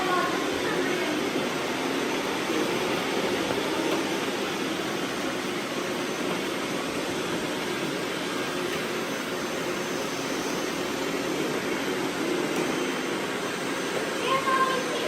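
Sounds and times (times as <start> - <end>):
robot vacuums whirring: 0.0 - 15.0.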